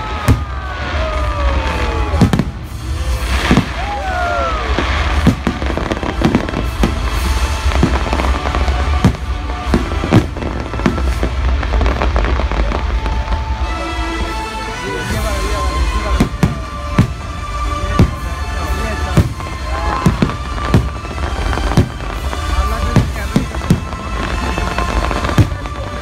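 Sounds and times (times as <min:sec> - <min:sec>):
fireworks bangs and crackles: 0:00.0 - 0:26.0
fireworks falling whistles: 0:00.0 - 0:26.0
orchestral soundtrack music: 0:00.0 - 0:26.0.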